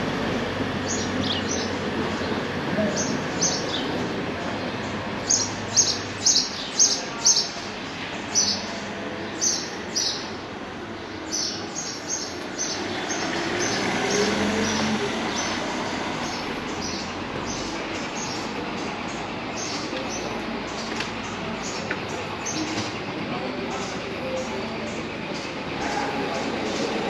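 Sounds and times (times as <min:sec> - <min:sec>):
street background hum: 0:00.0 - 0:27.0
small birds chirping: 0:00.8 - 0:27.0.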